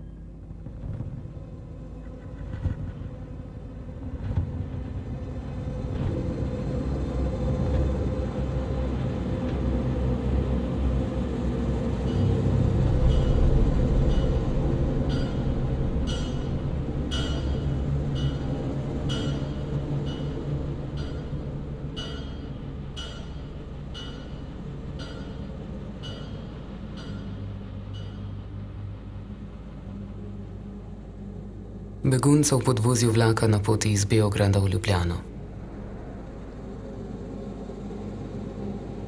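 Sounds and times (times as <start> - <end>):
train rumble on rails: 0.0 - 32.0, 34.9 - 39.0.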